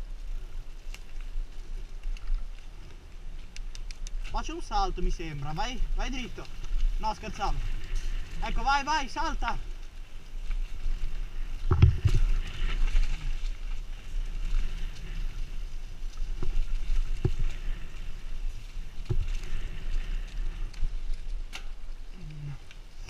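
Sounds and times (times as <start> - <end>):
tyre noise on dirt: 0.0 - 23.0
wind rumble on microphone: 0.0 - 23.0.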